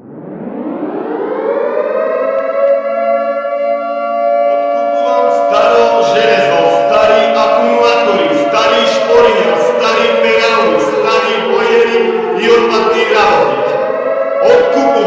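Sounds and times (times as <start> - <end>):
siren winding up: 0.0 - 15.0.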